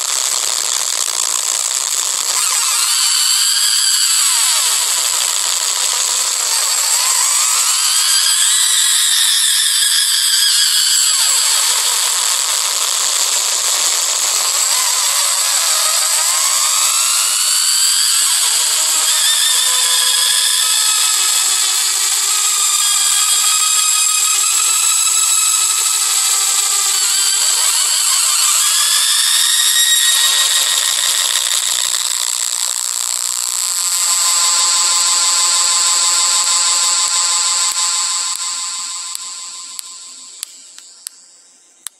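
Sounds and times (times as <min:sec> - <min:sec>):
shrill gliding electronic tones: 0:02.3 - 0:41.1.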